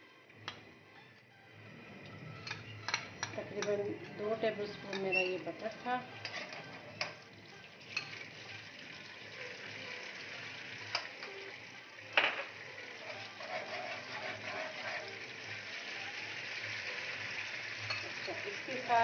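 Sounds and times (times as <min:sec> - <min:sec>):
butter sizzling in a wok: 0:02.4 - 0:19.0.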